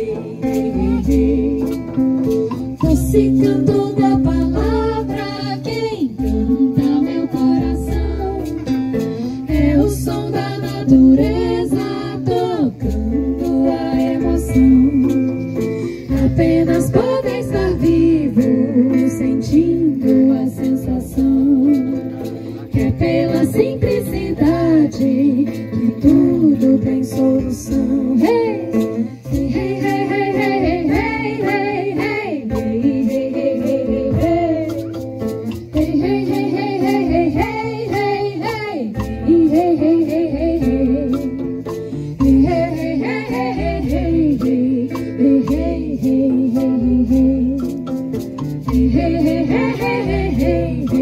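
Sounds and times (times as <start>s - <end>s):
women singing: 0.0s - 48.0s, 48.6s - 51.0s
acoustic guitar: 0.0s - 51.0s
light percussion: 0.0s - 51.0s.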